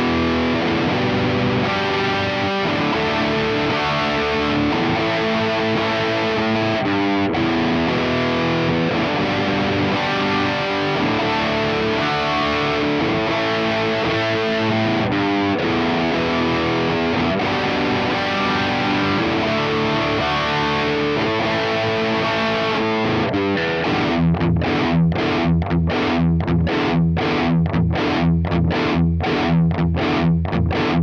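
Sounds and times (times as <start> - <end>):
distorted electric guitar: 0.0 - 31.0.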